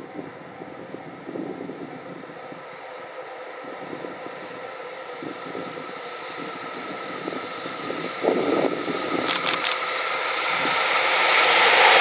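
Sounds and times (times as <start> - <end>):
freight train running noise: 0.0 - 12.0
locomotive whine: 0.0 - 12.0.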